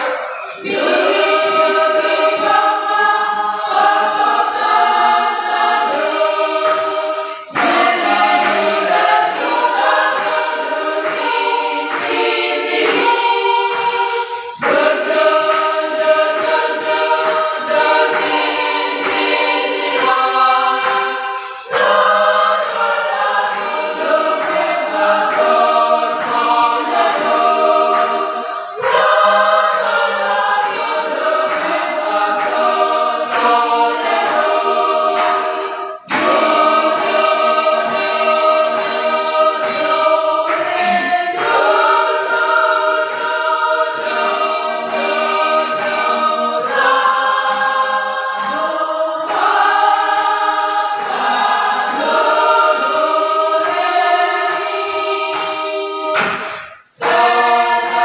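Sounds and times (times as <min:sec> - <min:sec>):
women's choir singing unaccompanied: 0:00.0 - 0:58.0.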